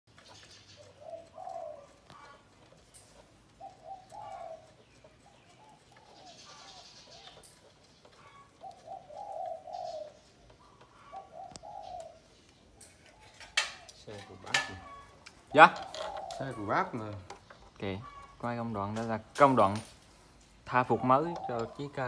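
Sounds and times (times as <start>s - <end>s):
dove cooing: 0.3s - 17.2s, 20.6s - 22.0s.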